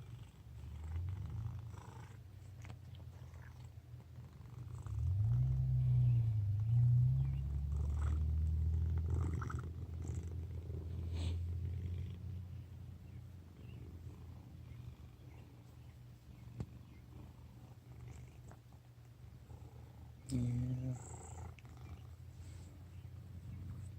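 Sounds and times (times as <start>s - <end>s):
cat low rumble: 0.0s - 23.9s.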